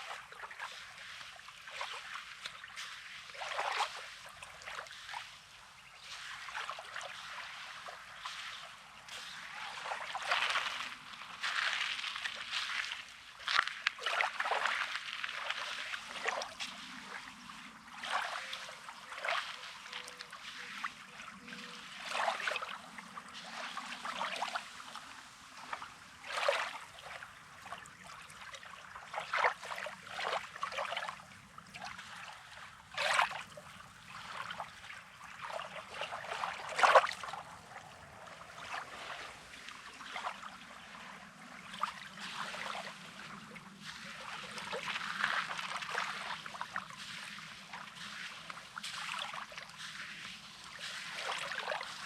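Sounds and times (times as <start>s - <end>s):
waves lapping on shore: 0.0s - 52.0s.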